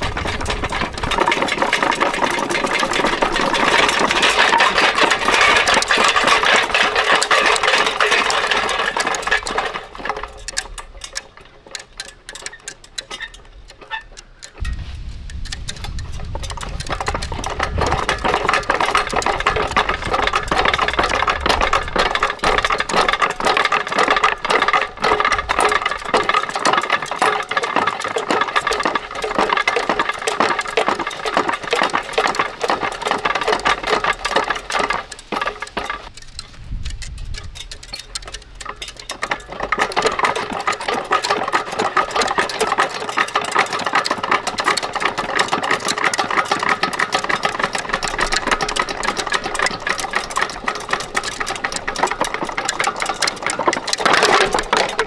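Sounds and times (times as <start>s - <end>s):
ceiling fan clattering: 0.0s - 55.0s.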